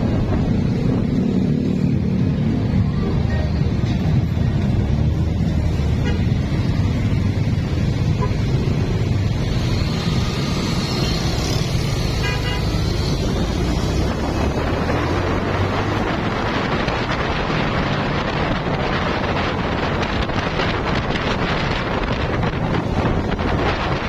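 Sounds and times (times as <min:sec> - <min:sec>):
wind noise on microphone: 0:00.0 - 0:24.0.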